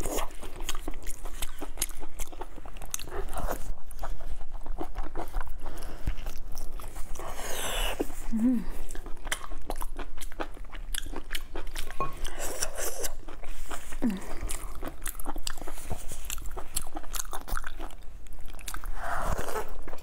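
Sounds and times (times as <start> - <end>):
wet chewing and lip smacks: 0.0 - 8.2, 8.9 - 20.0.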